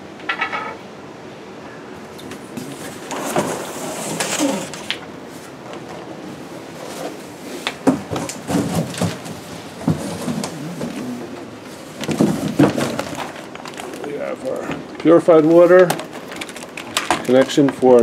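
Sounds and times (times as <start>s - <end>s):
cardboard and plastic wrap rustling: 2.3s - 6.1s, 6.7s - 18.0s.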